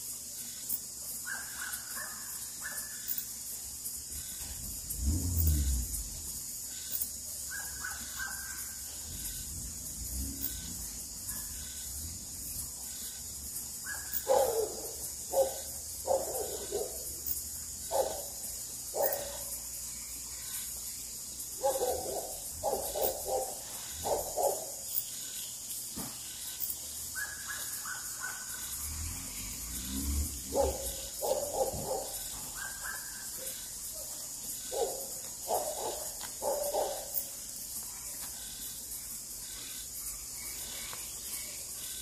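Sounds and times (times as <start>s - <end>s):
high insect trill: 0.0s - 42.0s.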